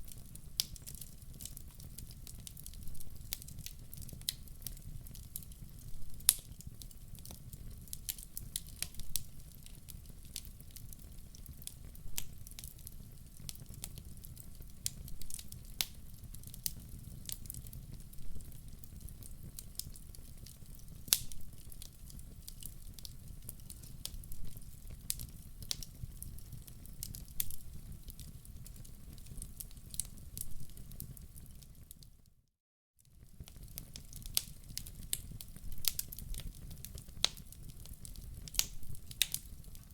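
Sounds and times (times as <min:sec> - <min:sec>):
wood fire crackling and popping: 0:00.0 - 0:32.1, 0:33.1 - 0:39.9.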